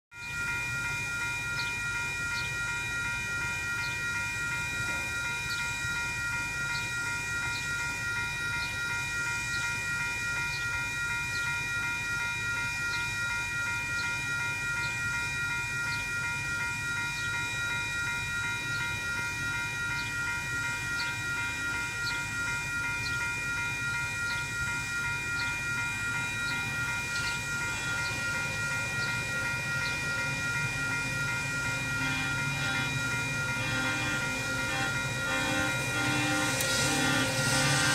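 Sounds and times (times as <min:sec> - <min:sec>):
crossing bells ringing: 0:00.1 - 0:37.9.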